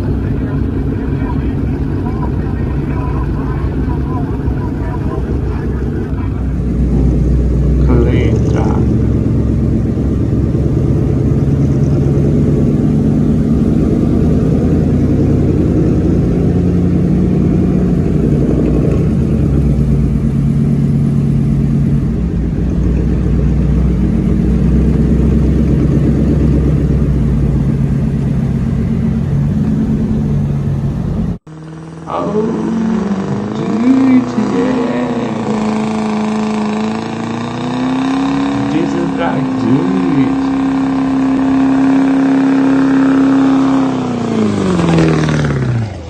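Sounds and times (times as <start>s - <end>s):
truck engine and exhaust running: 0.0s - 46.0s.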